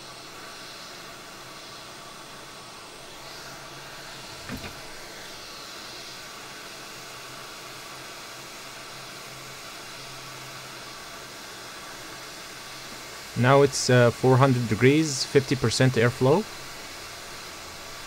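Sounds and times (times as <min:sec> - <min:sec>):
hot air blower hissing: 0:00.0 - 0:18.0.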